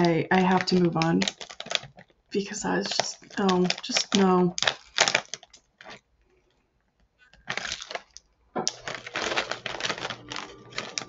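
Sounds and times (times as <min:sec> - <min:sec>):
plastic snack bag crinkling: 0:00.0 - 0:06.6, 0:07.2 - 0:11.0.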